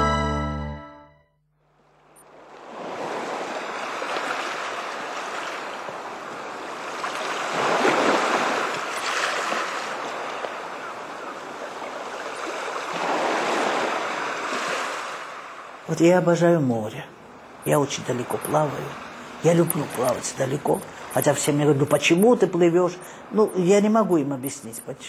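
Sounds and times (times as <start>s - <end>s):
waves washing onto beach: 2.3s - 15.9s, 17.3s - 24.9s.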